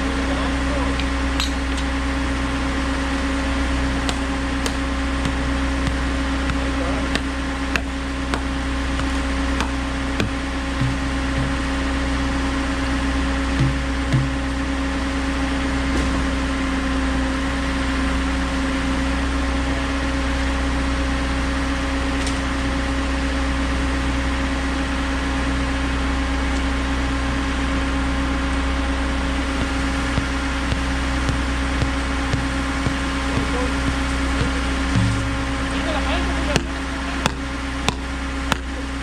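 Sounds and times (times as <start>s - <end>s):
diesel engine running: 0.0s - 22.1s, 22.7s - 39.0s.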